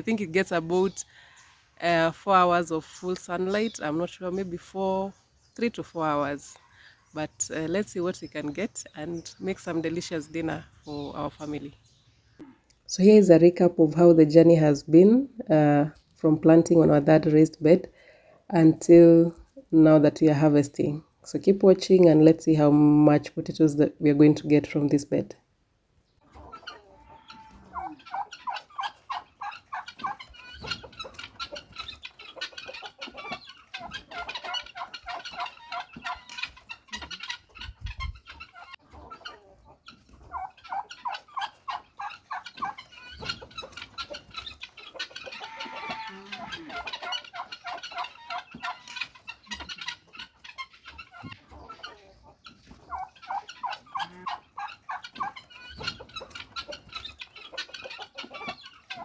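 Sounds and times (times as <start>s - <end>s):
poultry clucking: 0.0s - 25.3s, 26.0s - 59.0s.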